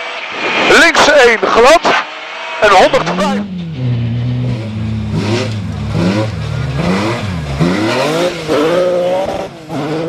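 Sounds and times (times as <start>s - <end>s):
car engine revving: 1.8s - 10.0s.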